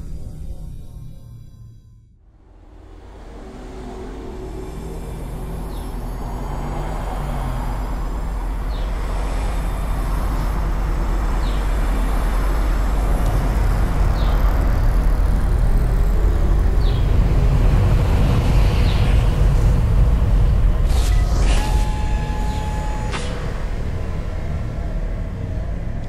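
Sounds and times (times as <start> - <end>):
spacecraft engine rumble: 0.0 - 26.0.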